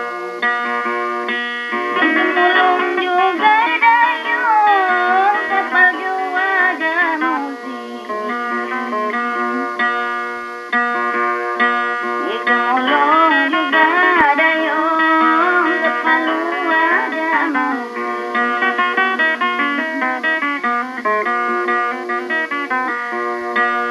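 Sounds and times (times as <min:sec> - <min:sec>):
ornamented melody possibly sung: 0:00.0 - 0:23.9
plucked guitar-like instrument: 0:00.0 - 0:23.9.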